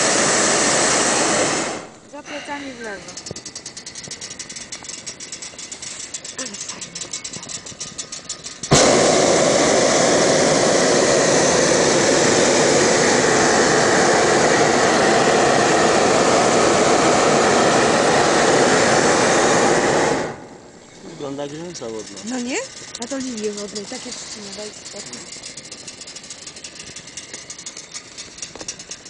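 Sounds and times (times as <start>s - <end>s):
propane burner blast: 0.0s - 29.0s.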